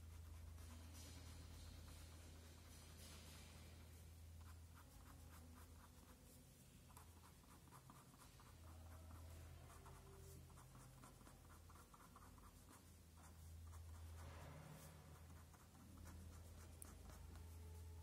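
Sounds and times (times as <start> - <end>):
ink pen scratching on paper: 0.0 - 18.0.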